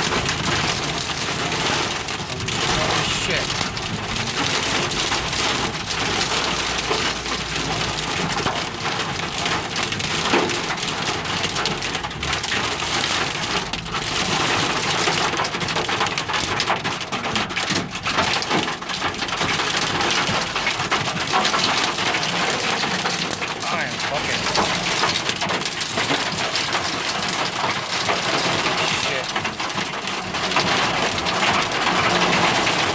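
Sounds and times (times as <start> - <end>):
heavy rain pelting a car: 0.0 - 32.9.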